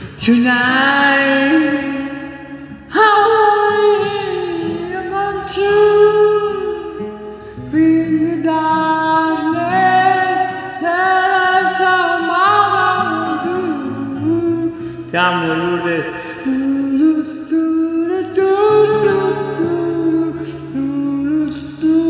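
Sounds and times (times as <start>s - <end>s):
acoustic karaoke backing track: 0.0s - 22.0s
person singing slow pop melody: 0.0s - 22.0s.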